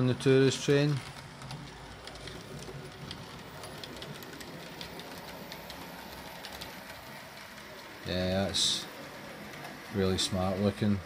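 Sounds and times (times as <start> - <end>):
wheels clicking over rail joints: 0.0 - 11.0.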